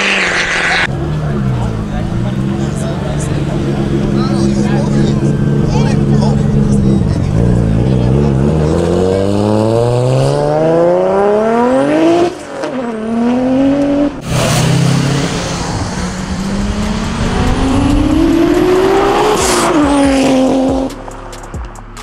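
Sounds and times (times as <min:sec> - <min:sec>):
sports car engine revving: 0:00.0 - 0:22.0.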